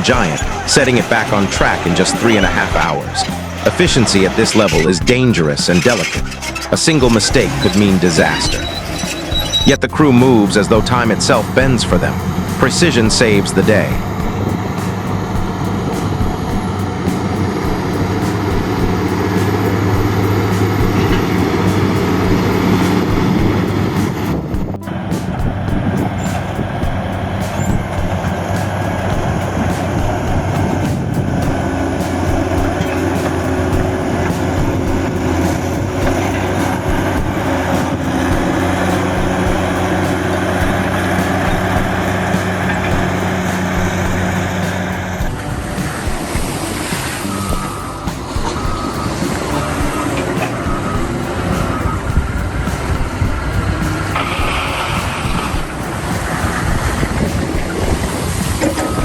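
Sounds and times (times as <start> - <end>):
diesel engines droning: 0.0 - 59.0.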